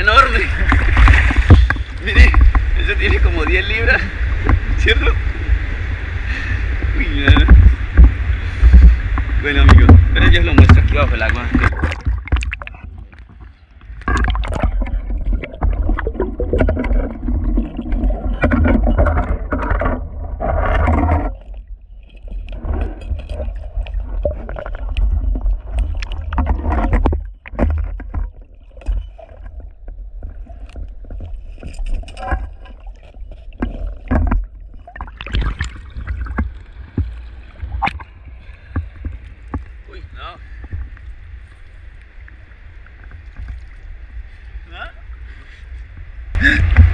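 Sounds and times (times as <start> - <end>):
river water splashing: 0.0 - 45.7
muffled underwater rumble: 0.0 - 46.9.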